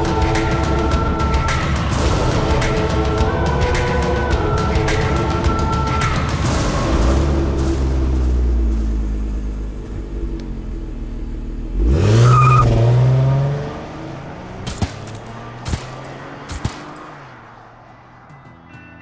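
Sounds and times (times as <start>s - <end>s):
car engine revving: 0.0s - 18.3s.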